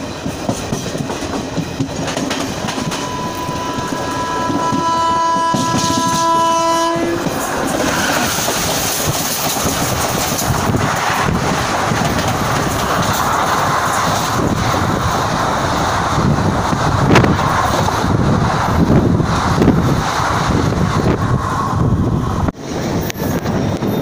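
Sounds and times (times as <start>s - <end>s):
rail clatter: 0.0s - 24.0s
train wheels rushing on rails: 0.0s - 24.0s.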